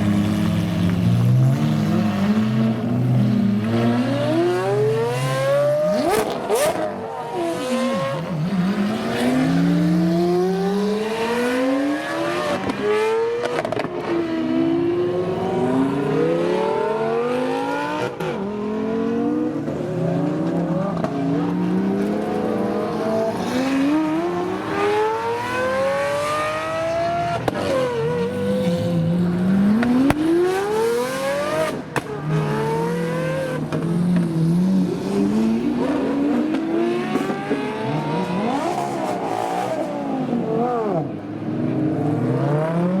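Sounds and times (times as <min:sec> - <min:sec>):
supercar engines revving: 0:00.0 - 0:43.0.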